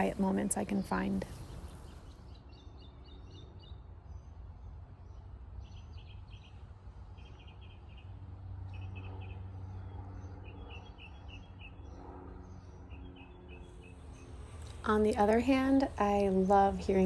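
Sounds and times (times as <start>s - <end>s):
small birds chirping: 0.0s - 4.4s, 5.1s - 17.0s
faint engine hum: 0.0s - 17.0s
low city rumble: 0.0s - 17.0s.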